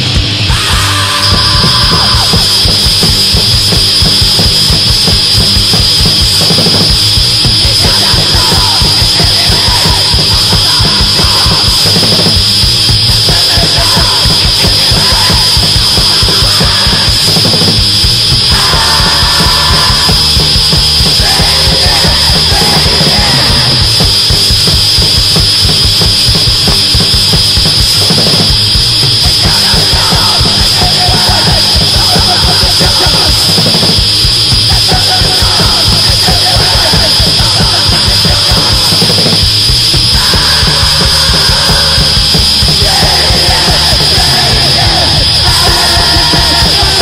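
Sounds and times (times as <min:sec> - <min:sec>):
loud fast punk music: 0:00.0 - 0:47.0
rapid drumming: 0:00.0 - 0:47.0.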